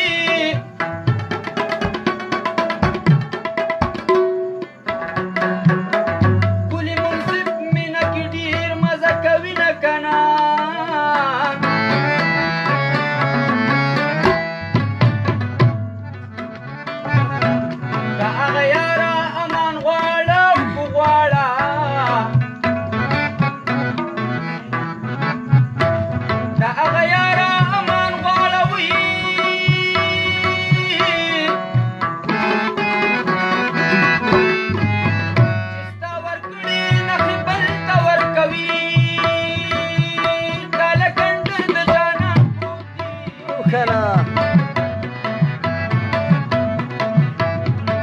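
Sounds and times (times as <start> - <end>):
harmonium held notes: 4.5 - 48.0.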